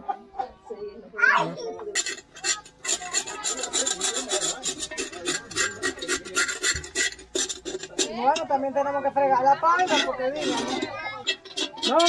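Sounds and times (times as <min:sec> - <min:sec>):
metal spoon scraping pot: 0:01.9 - 0:12.0.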